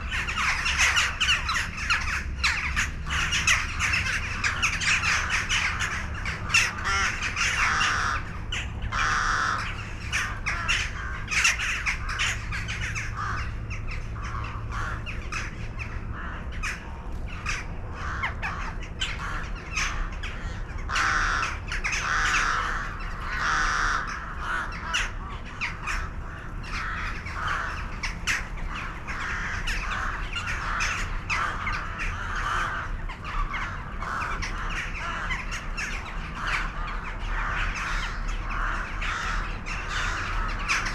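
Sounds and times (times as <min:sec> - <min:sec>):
birds calling: 0:00.0 - 0:40.9
low steady hum: 0:00.0 - 0:40.9.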